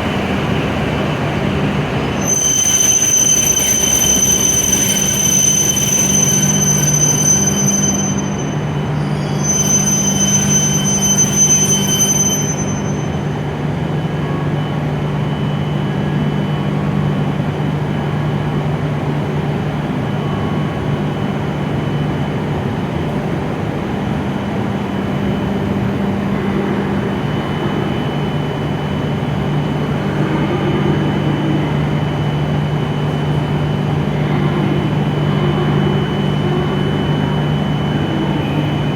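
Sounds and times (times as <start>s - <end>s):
high train whine: 0.0s - 38.9s
standing train low hum: 0.0s - 38.9s.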